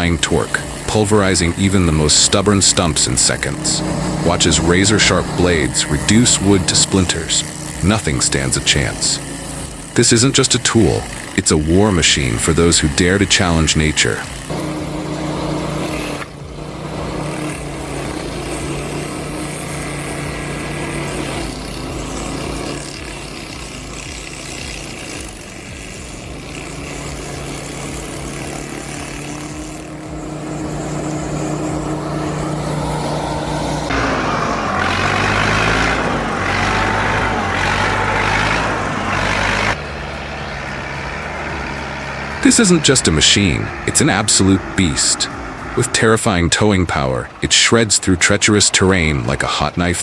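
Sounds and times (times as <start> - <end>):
heavy machinery engines under load: 0.0 - 50.0.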